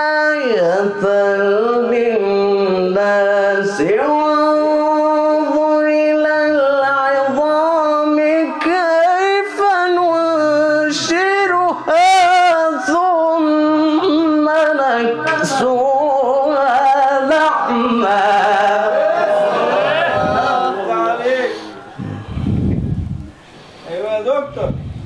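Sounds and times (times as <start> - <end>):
man reciting melodically: 0.0 - 22.6.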